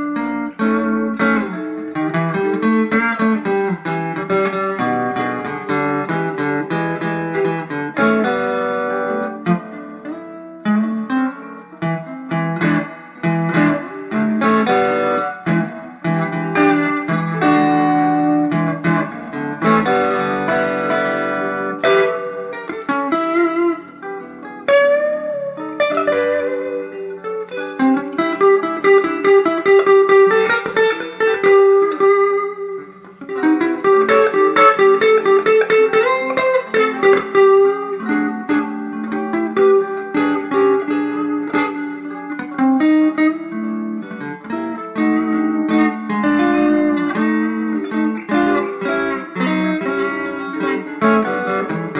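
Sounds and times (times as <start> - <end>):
electric guitar lead line: 0.0 - 51.9.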